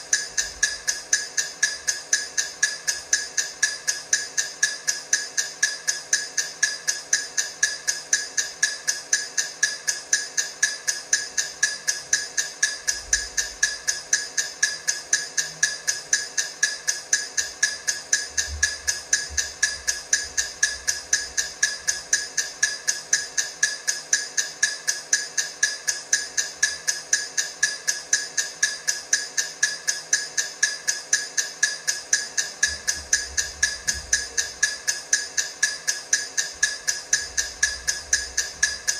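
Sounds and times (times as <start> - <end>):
timer ticking: 0.0 - 38.9.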